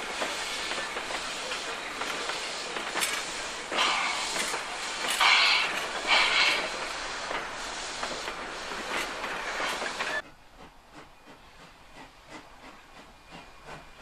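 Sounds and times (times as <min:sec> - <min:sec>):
distant steam locomotive beats: 0:00.0 - 0:14.0
train wheels clattering over rail joints: 0:00.0 - 0:14.0.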